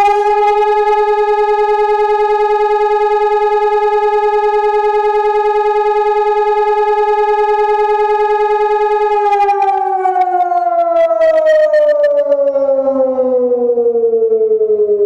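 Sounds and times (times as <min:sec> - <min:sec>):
electronic siren steady tone: 0:00.0 - 0:15.0.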